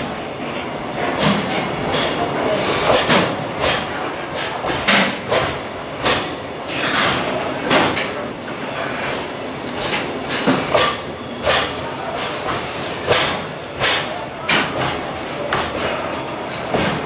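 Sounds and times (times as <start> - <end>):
train wheels clacking over rail joints: 1.0 - 8.2, 9.0 - 17.0.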